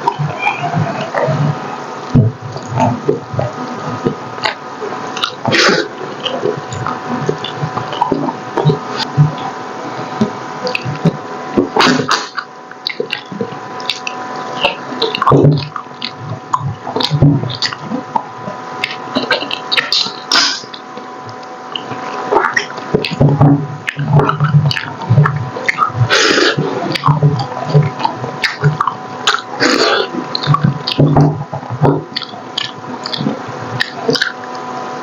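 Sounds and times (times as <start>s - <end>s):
wet chewing and smacking: 0.0s - 35.0s.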